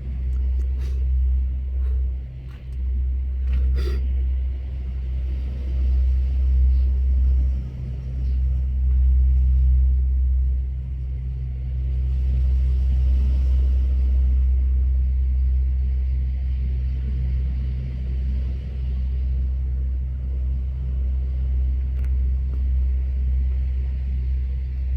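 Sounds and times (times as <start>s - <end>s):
low rumble: 0.0s - 24.9s.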